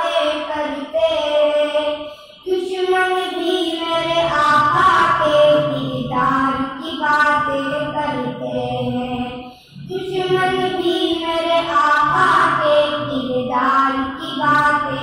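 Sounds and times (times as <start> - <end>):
boys singing unaccompanied: 0.0 - 15.0.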